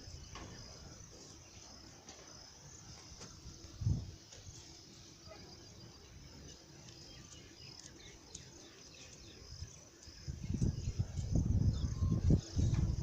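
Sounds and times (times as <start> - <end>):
insects and birds chirping: 0.0 - 13.0.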